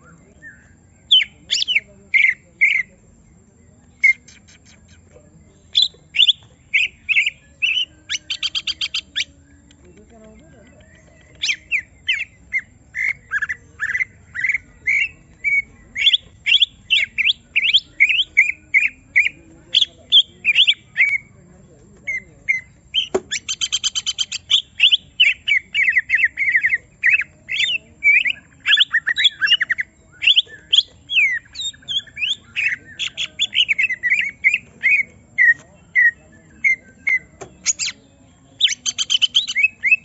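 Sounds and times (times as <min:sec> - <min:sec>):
bird singing whistled notes: 0:00.0 - 0:21.4, 0:22.0 - 0:40.0.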